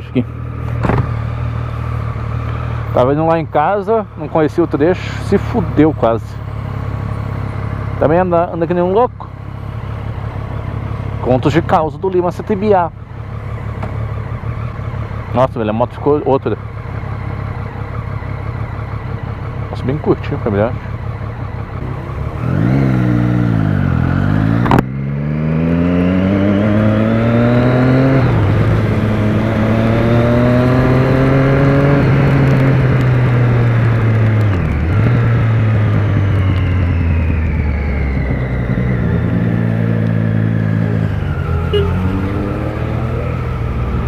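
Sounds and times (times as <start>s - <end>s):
motorcycle engine revving: 0.2s - 44.0s.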